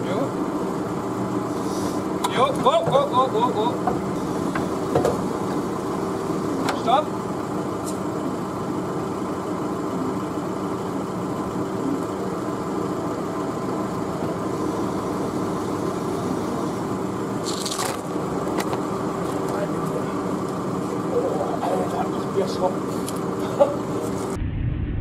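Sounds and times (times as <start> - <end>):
powered hoist humming: 0.0 - 24.4.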